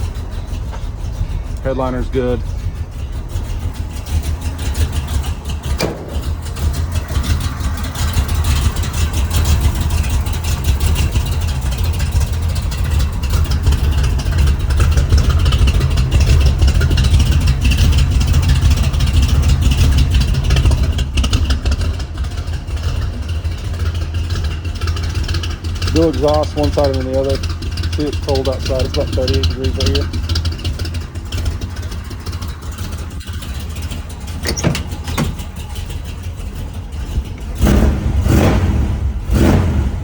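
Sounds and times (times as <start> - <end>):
pulsing engine exhaust: 0.0 - 40.0.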